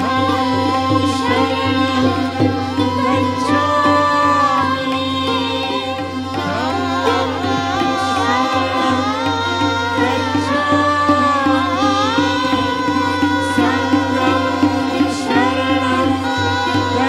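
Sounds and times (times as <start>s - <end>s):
person singing melodic lines: 0.0s - 17.0s
steady held drone: 0.0s - 17.0s.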